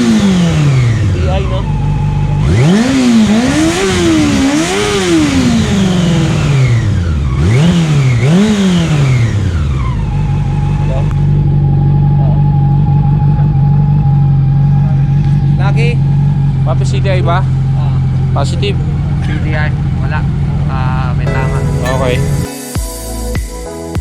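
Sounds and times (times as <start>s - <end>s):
motorcycle engine revving and idling: 0.0s - 21.3s.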